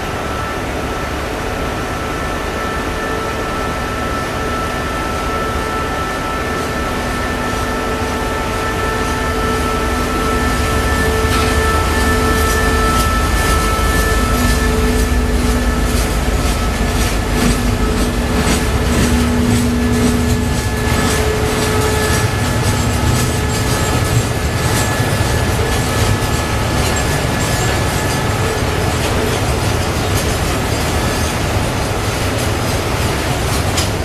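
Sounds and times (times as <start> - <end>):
freight train rumble: 0.0 - 34.0
wheels squealing on rails: 0.0 - 34.0
train wheels clicking over rail joints: 6.1 - 34.0.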